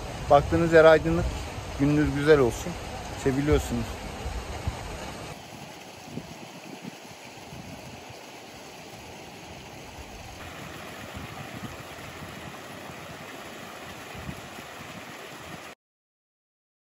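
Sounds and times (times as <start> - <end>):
water pouring from pipes: 0.0 - 15.8.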